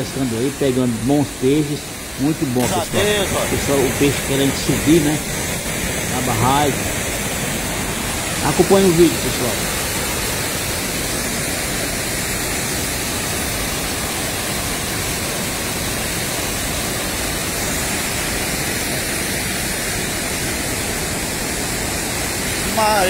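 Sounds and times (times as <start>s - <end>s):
water rushing over weir: 0.0s - 23.0s.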